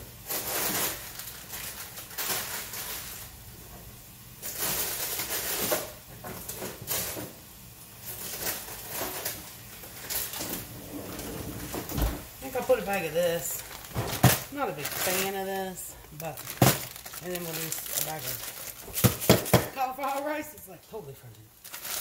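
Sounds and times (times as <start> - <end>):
plastic bags crinkling: 0.2 - 3.4, 4.4 - 7.2, 8.0 - 22.0.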